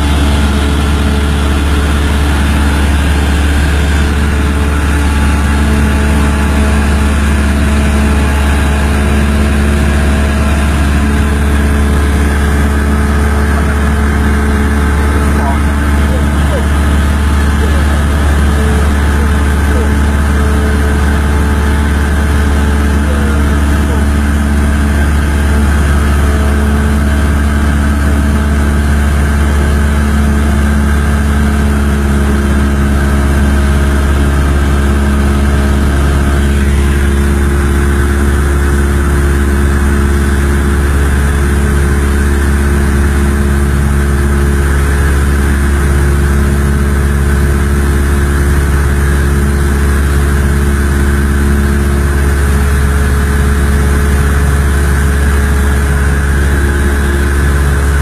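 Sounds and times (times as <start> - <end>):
loud engine drone: 0.0 - 58.0.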